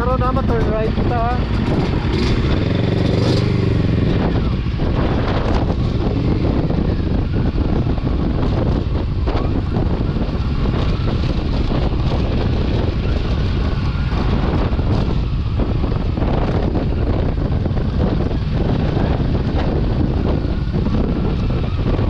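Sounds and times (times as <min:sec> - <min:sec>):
motorcycle engine: 0:00.0 - 0:22.0
wind buffeting microphone: 0:00.0 - 0:22.0.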